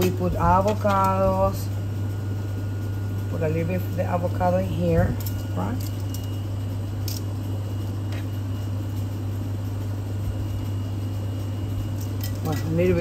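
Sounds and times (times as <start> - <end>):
kitchen equipment hum: 0.0 - 13.0.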